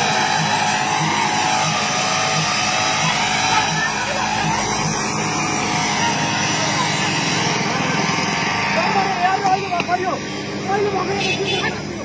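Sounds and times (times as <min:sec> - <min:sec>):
loud rushing noise: 0:00.0 - 0:11.2
people talking: 0:01.7 - 0:12.0.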